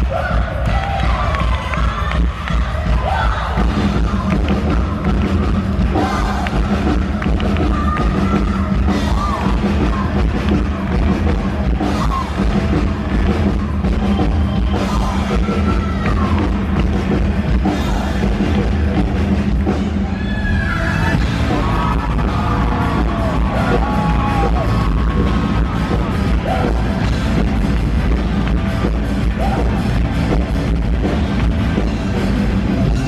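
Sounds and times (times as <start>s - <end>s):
bass: 0.0s - 33.0s
drum kit: 0.0s - 33.0s.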